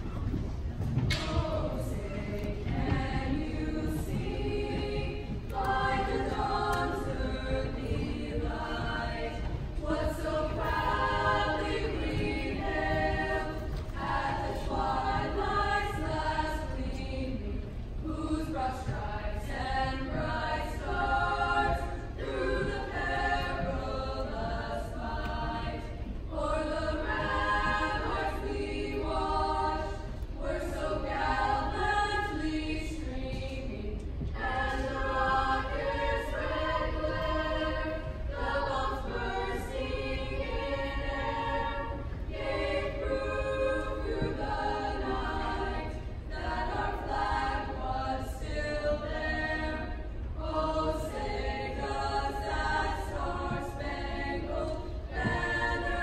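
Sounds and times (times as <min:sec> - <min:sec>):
mixed choir singing: 0:00.8 - 0:56.0.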